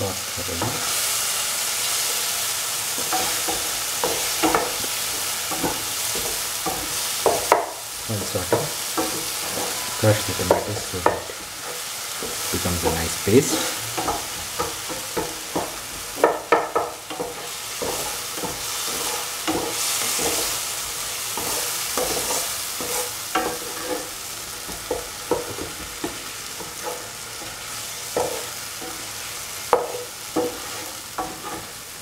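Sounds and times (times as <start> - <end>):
vegetables sizzling in hot oil: 0.0 - 32.0
utensil knocking and scraping pan: 3.0 - 20.6, 21.3 - 31.7.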